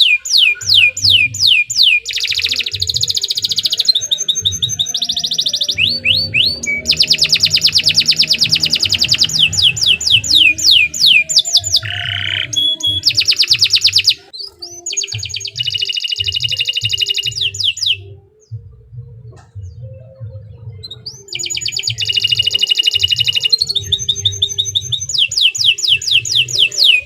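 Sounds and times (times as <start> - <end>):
canary singing trills: 0.0 - 27.0.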